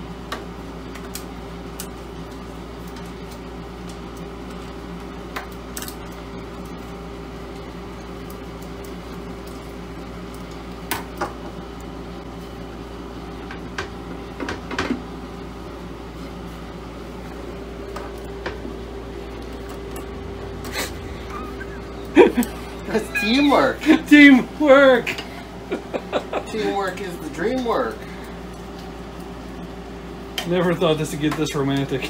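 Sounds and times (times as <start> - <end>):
background hum: 0.0 - 30.4.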